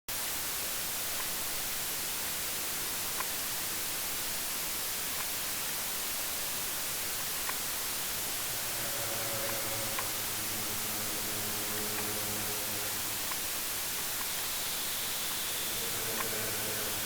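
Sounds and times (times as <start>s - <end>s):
white-noise hiss: 0.1s - 17.0s.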